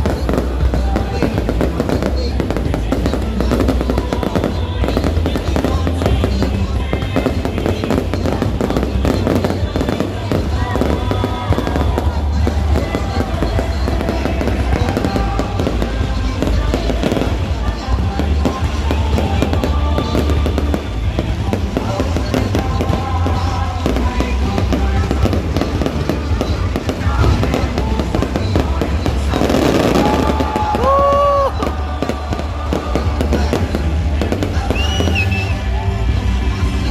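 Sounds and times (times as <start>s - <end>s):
fireworks bangs and crackles: 0.0s - 36.9s
music playing: 0.0s - 36.9s.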